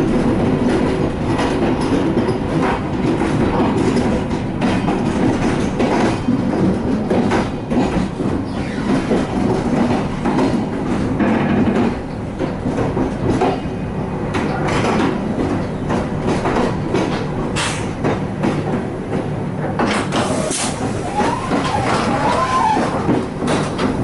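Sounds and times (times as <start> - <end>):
train wheels rumbling on rails: 0.0 - 24.0
wheels clacking over rail joints: 0.0 - 24.0.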